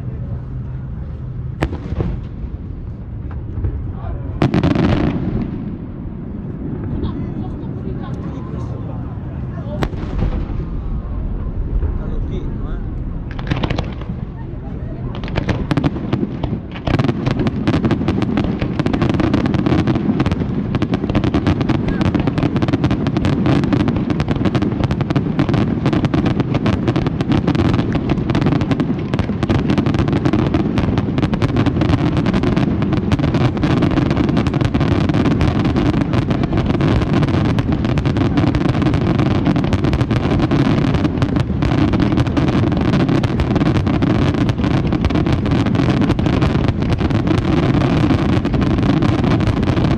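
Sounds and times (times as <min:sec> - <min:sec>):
fireworks crackling: 0:00.0 - 0:49.9.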